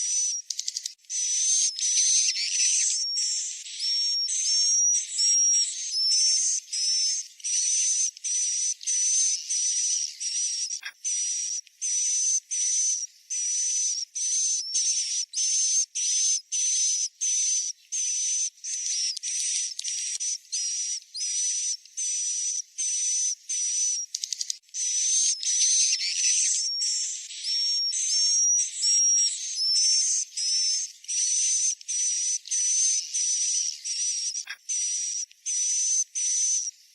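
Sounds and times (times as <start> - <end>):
hissy bird chirps: 0.0 - 16.4, 18.7 - 36.9.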